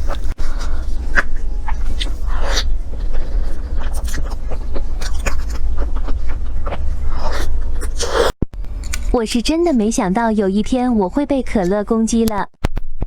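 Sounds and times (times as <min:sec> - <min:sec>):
steady low rumble: 0:00.0 - 0:12.1
eating clicks and scrapes: 0:00.0 - 0:12.2.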